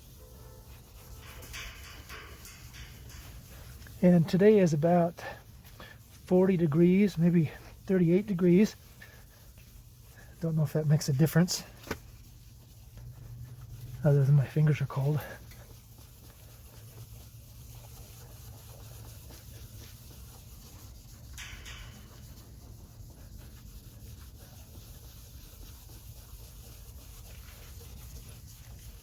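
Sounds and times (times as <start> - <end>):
hand rubbing plastic lens: 0.0 - 29.0.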